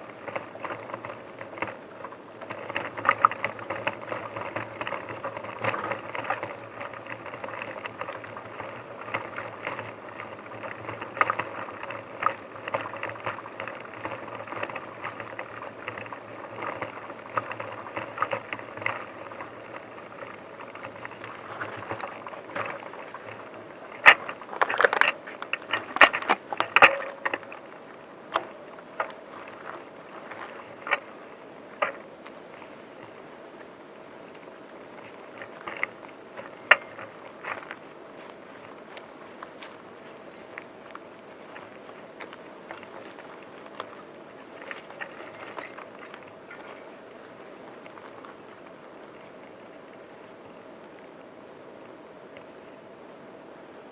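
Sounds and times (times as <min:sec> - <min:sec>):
bicycle rattling over rough track: 0:00.0 - 0:53.9.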